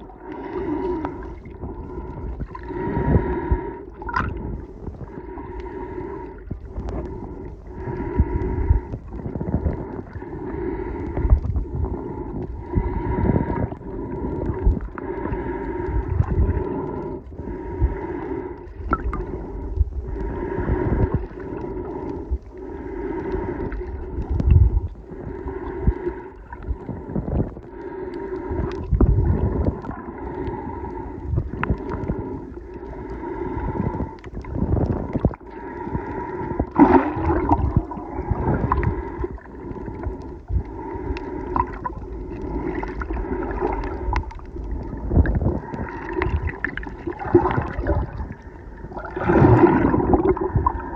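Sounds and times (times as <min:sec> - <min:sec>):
water moving underwater: 0:00.0 - 0:50.9.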